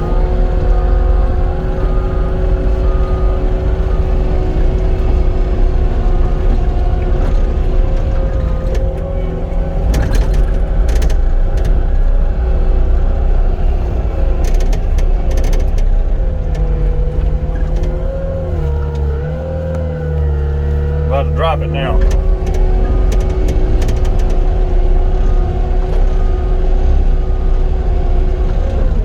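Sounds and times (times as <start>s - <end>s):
diesel engine whining under load: 0.0s - 29.0s.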